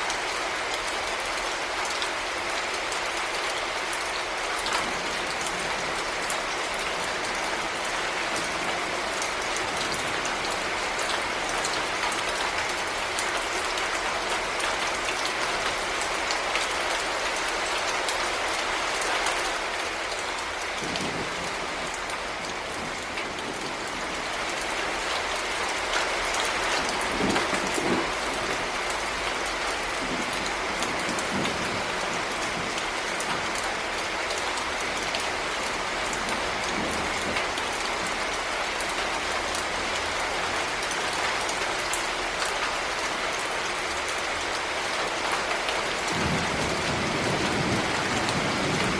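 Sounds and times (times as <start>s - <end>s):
heavy rain pattering: 0.0s - 48.9s.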